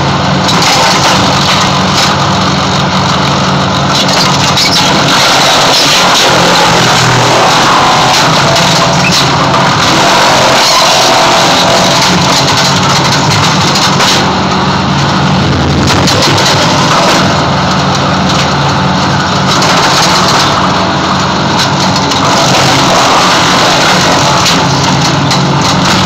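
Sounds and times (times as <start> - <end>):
wood chipper running: 0.0 - 26.0.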